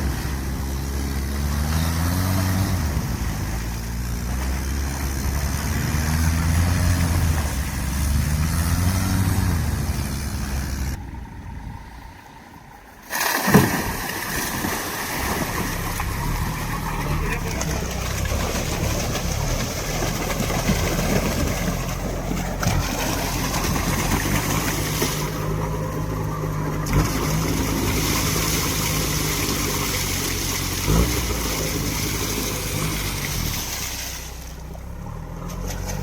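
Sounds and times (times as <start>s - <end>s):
all-terrain vehicle engine running: 0.0s - 36.0s.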